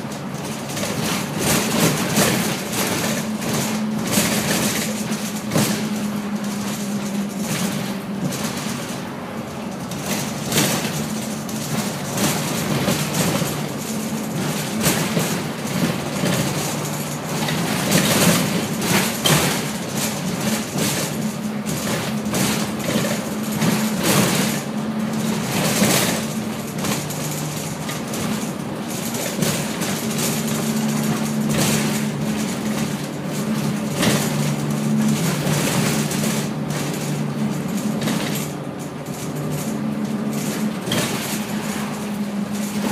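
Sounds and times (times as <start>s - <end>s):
bus body rattling: 0.0s - 42.9s
bus diesel engine droning: 0.0s - 42.9s
road noise: 0.0s - 42.9s.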